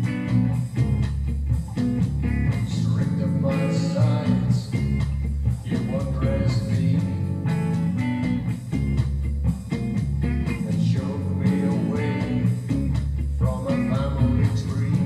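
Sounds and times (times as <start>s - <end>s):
bass guitar line: 0.0s - 15.0s
drum machine beat: 0.0s - 15.0s
electric guitar: 0.0s - 15.0s.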